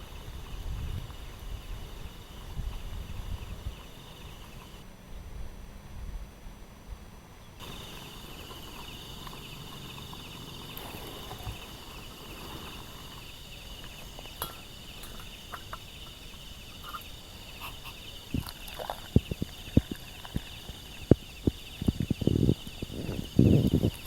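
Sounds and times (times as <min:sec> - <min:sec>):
insects trilling: 0:00.0 - 0:04.8, 0:07.6 - 0:24.0.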